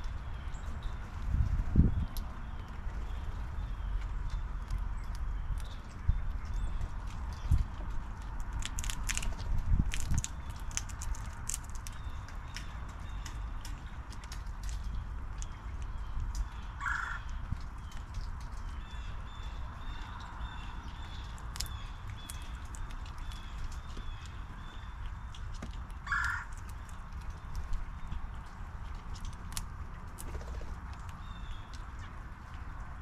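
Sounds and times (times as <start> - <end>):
squirrel cracking seeds: 3.6 - 33.0.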